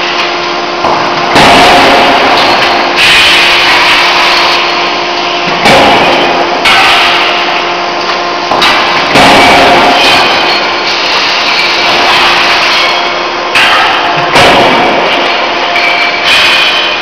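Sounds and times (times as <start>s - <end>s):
forging hammer blows: 0.0s - 7.8s, 8.5s - 17.0s
machinery hum: 0.0s - 17.0s.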